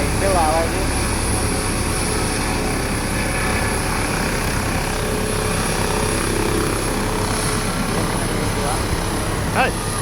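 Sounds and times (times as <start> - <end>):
helicopter engine and rotor: 0.0 - 10.0.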